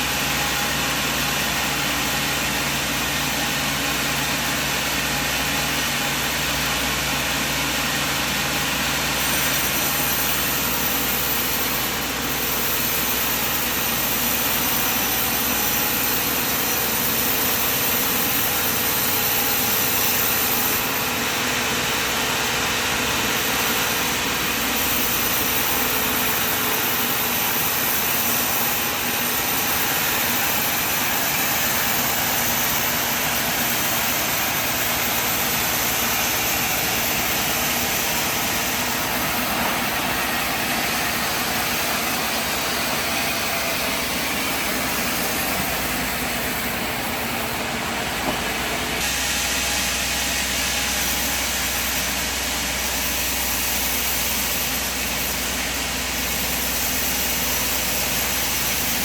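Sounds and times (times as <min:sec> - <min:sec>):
sawmill machine running: 0:00.0 - 0:59.0.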